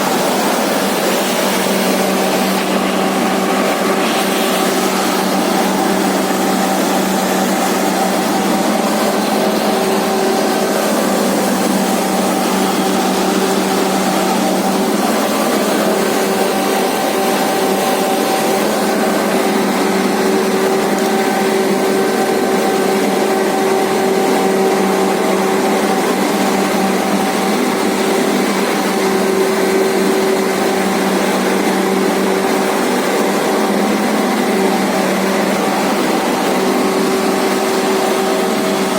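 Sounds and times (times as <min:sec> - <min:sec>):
planer machine whirring: 0:00.0 - 0:38.9.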